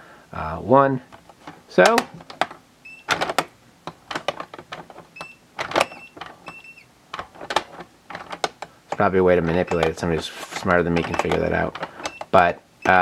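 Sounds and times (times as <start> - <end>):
plastic clicks and knocks: 1.1 - 13.0.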